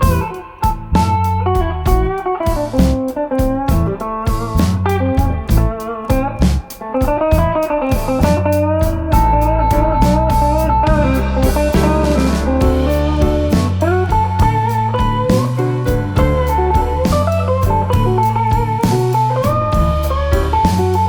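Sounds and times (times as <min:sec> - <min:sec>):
bluesy electric guitar over bass: 0:00.0 - 0:21.0.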